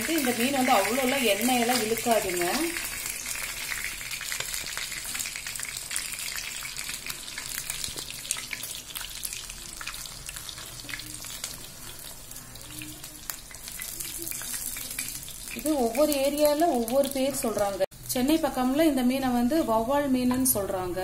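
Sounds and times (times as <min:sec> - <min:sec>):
fish sizzling in hot oil: 0:00.0 - 0:19.4.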